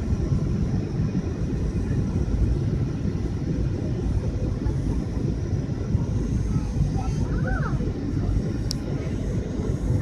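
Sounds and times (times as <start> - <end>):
engine rumble and rushing air: 0.0 - 10.0.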